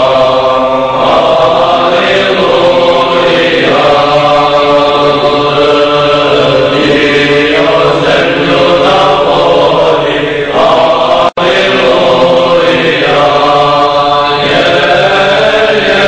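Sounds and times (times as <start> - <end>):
choir chanting: 0.0 - 16.0.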